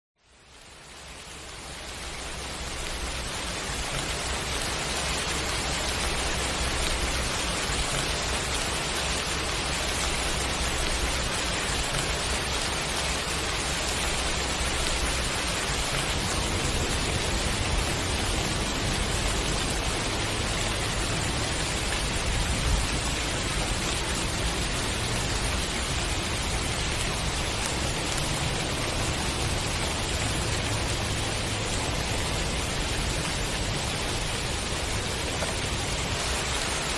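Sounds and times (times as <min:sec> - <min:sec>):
steady rain hiss: 0:00.2 - 0:36.9.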